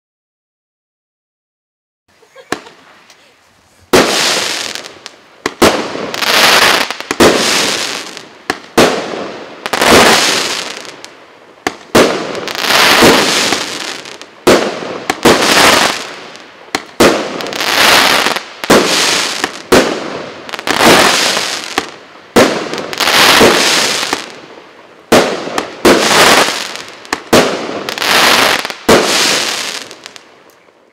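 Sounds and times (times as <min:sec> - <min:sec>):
crackling firework bursts: 0:02.3 - 0:30.6
firework bangs: 0:03.9 - 0:30.3.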